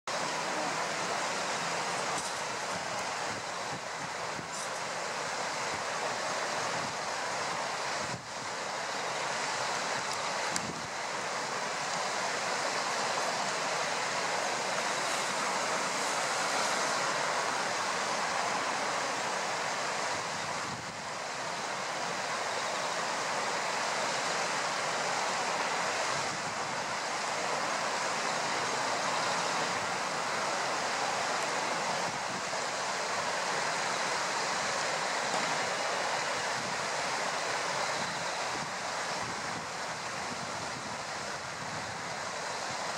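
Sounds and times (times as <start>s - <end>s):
steady rushing noise: 0.1s - 42.9s.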